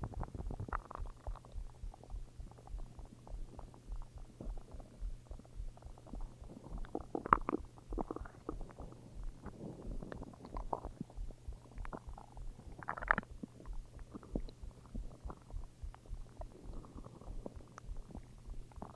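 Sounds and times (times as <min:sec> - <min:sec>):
stomach growling: 0:00.0 - 0:18.9.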